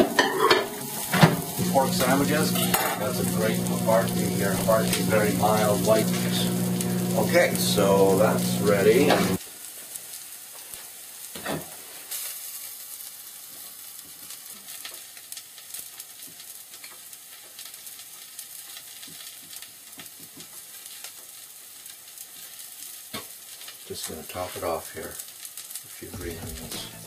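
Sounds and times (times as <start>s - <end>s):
onions sizzling in frying pan: 0.0s - 27.0s.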